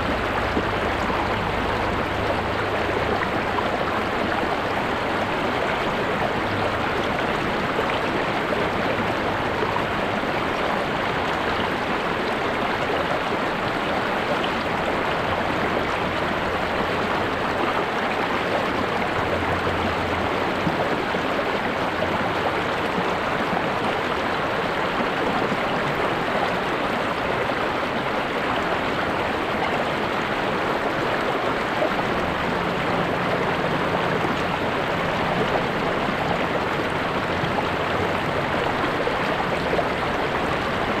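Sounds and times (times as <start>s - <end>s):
river water rushing over rocks: 0.0s - 41.0s.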